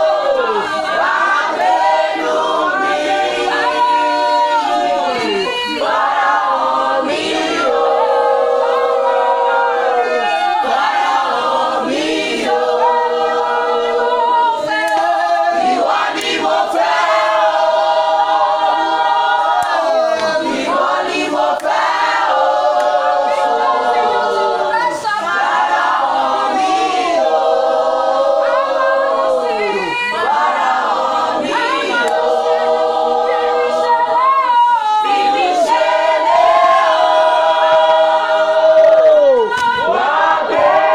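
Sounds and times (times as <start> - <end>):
choir singing a cappella: 0.0 - 40.9.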